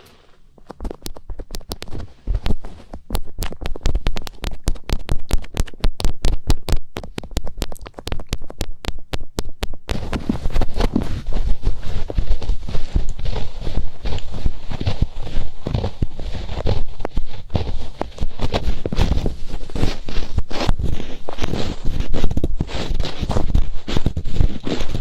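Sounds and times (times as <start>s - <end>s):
fingertips rubbing microphone: 0.0s - 25.0s.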